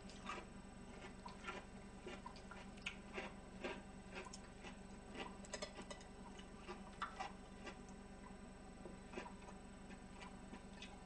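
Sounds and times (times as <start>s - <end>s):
person chewing food: 0.0s - 8.0s, 9.1s - 11.0s.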